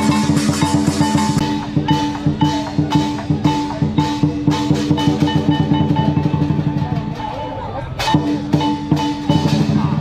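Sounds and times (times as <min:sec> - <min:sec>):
held pitched notes: 0:00.0 - 0:09.8
drum-led percussion music: 0:00.0 - 0:10.0.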